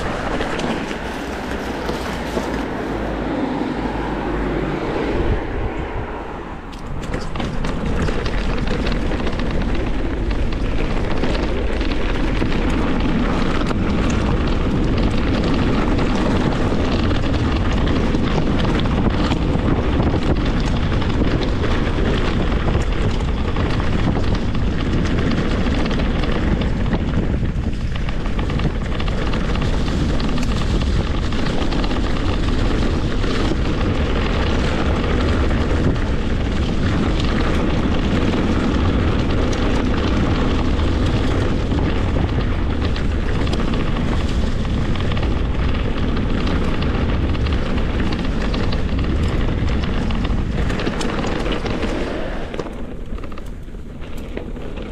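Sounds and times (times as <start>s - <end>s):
bike rattling over ground: 0.0s - 54.9s
wind on microphone: 0.0s - 54.9s.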